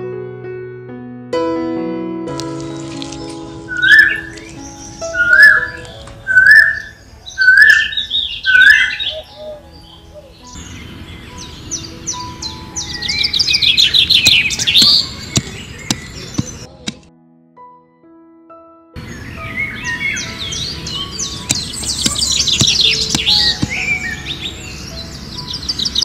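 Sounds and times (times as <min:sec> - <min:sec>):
birds chirping: 0:02.6 - 0:17.0, 0:19.0 - 0:26.0.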